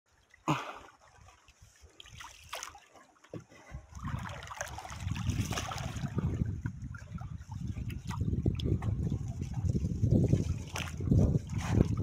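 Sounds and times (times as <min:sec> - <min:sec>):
water lapping around canoe: 0:00.1 - 0:12.0.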